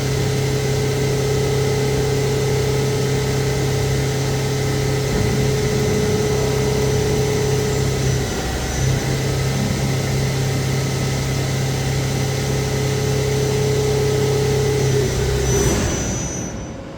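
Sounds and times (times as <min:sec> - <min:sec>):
high machine whine: 0:00.0 - 0:16.9
lathe machine hum: 0:00.0 - 0:16.9.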